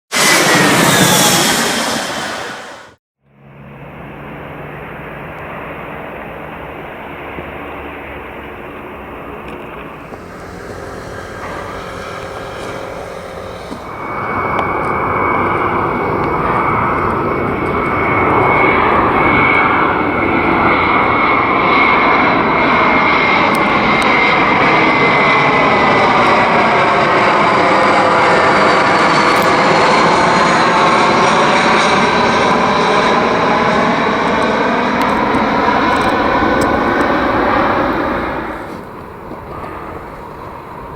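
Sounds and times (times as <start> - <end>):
jet airliner engines whining: 0.1 - 40.9.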